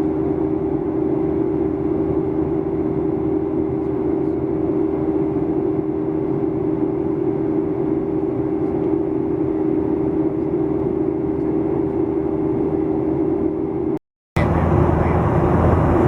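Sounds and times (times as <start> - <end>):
airplane cabin engine drone: 0.0 - 16.0
constant low hum: 0.0 - 16.0.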